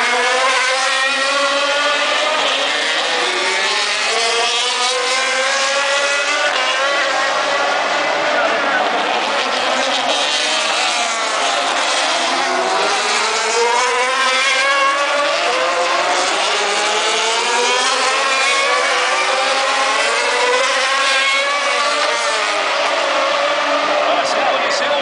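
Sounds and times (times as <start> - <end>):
race cars passing at high revs: 0.0 - 25.0.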